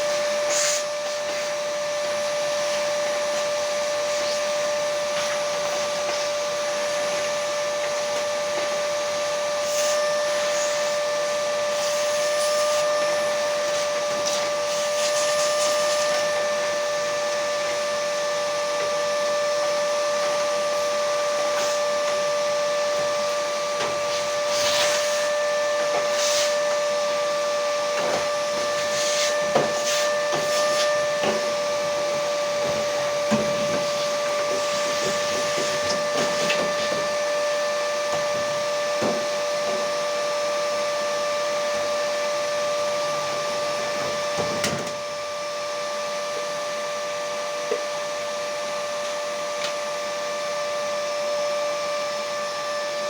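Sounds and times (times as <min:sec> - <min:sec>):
small electric motor whining: 0:00.0 - 0:53.0.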